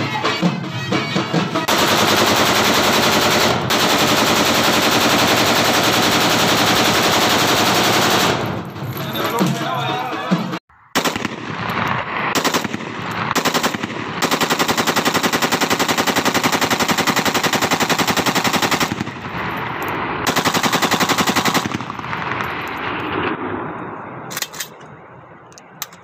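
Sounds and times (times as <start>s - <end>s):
rolling gunfire echo: 1.5s - 9.9s, 10.9s - 25.0s.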